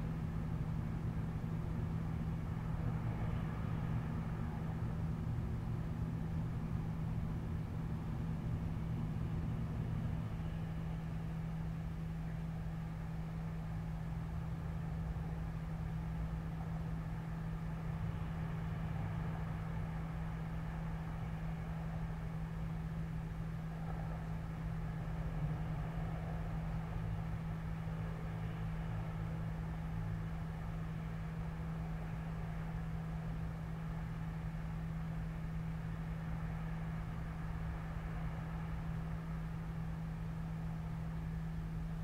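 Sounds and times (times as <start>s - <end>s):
city rumble through a window: 0.0s - 42.0s
constant low hum: 0.0s - 42.0s.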